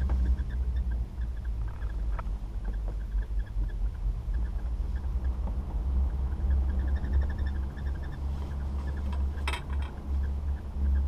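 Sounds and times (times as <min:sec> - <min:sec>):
faint rapid chirping: 0:00.0 - 0:11.0.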